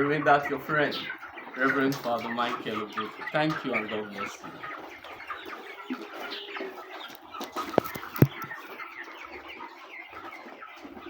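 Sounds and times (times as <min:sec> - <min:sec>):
chickens clucking and peeping: 0:00.0 - 0:11.0.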